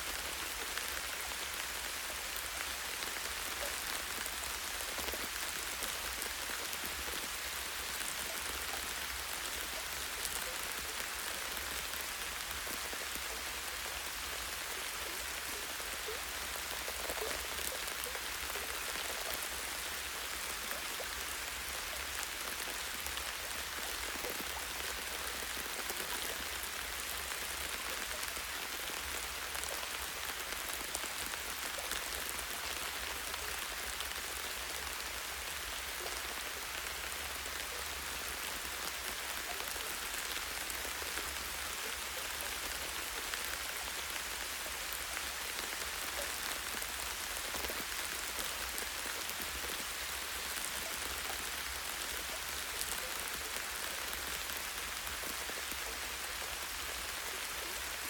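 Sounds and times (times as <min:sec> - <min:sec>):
light rain on leaves: 0:00.0 - 0:58.0.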